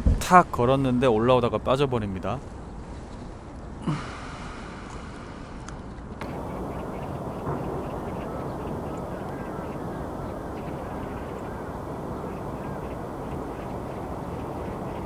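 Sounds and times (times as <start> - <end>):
steady outdoor rush: 0.0 - 15.0
birds calling: 1.1 - 15.0.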